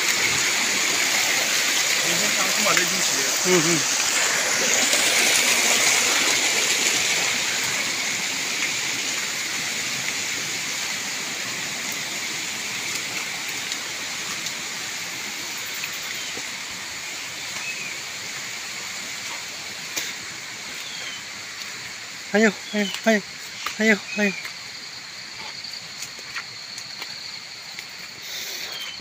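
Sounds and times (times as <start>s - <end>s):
stream splashing over rocks: 0.0s - 29.0s.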